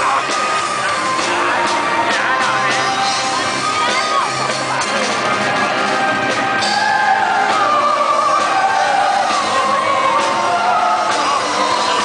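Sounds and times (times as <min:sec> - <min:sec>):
metal band playing live: 0:00.0 - 0:12.0.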